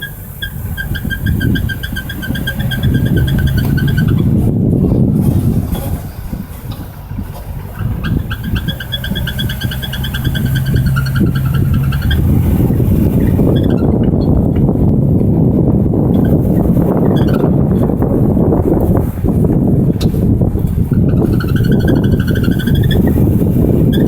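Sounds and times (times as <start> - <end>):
pulsing high-pitched squeal: 0.0 - 15.1, 15.8 - 24.0
vehicle running drone: 0.0 - 24.0.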